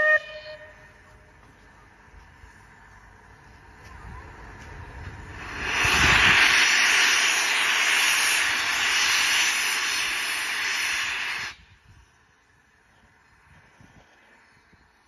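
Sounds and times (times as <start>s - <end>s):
steam locomotive venting steam: 0.0s - 15.0s.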